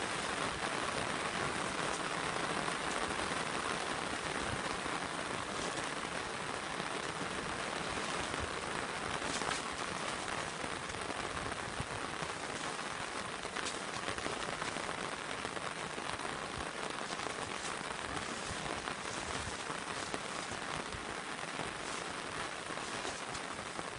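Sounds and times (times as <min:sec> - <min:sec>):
rain falling on grass: 0:00.0 - 0:23.9.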